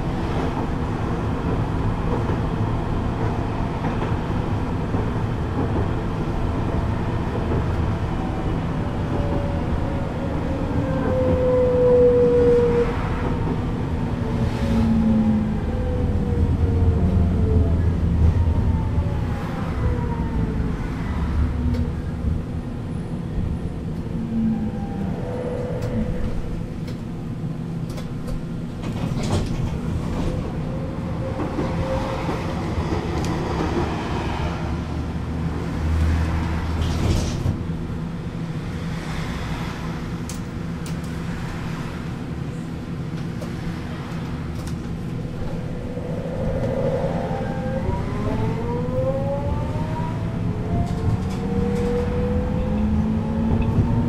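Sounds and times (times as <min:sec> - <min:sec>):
tram traction drive whine: 0:00.0 - 0:38.6, 0:39.7 - 0:54.0
steady tram hum: 0:00.0 - 0:54.0.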